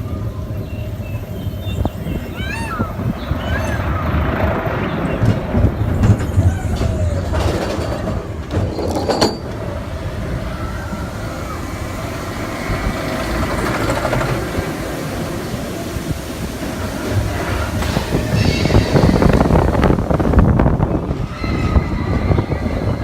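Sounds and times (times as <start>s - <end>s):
roller coaster wheels rumbling: 0.0s - 23.0s.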